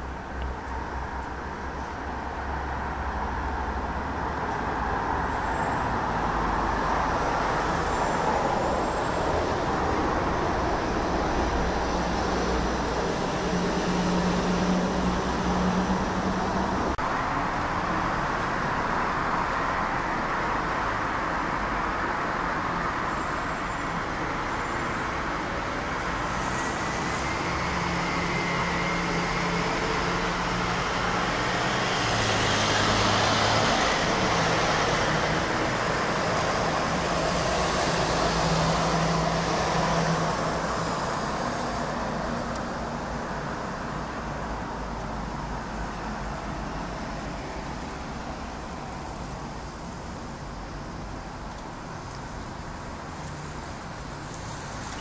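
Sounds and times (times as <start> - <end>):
distant engines rumbling: 0.0 - 55.0.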